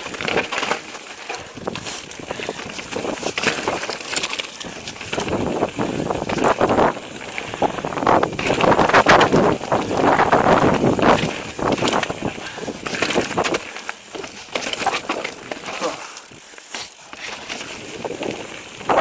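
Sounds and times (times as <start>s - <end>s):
bike clicks and rattles: 0.0s - 19.0s
bike tyres crunching on stones: 0.0s - 19.0s.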